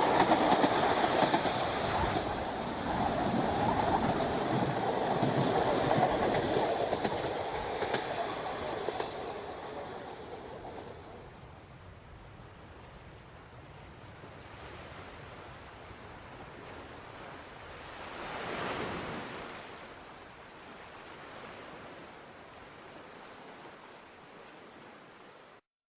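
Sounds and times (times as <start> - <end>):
sea waves washing on a beach: 0.0 - 25.6.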